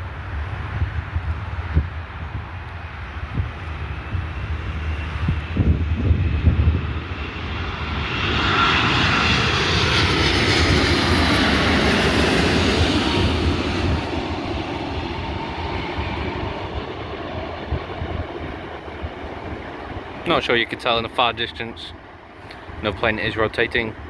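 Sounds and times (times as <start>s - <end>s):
jet engines passing: 0.0s - 24.0s.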